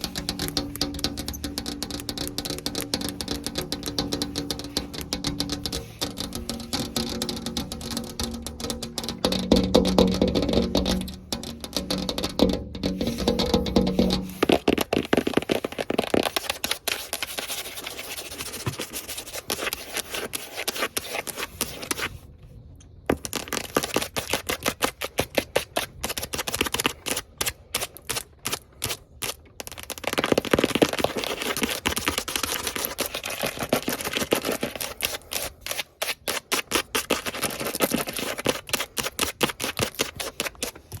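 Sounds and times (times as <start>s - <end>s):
fingernails tapping and scratching: 0.0s - 22.1s, 23.1s - 41.0s.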